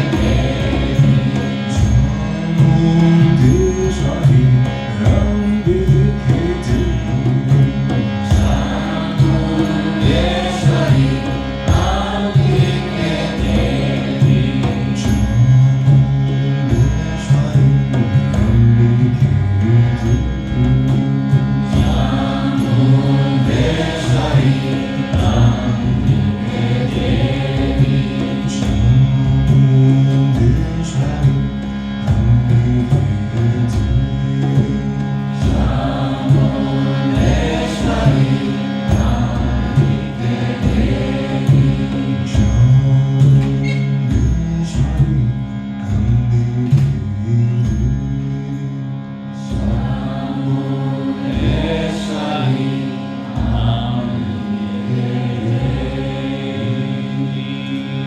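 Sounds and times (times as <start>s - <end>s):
devotional mantra chanting: 0.0s - 58.0s
steady held drone: 0.0s - 58.0s.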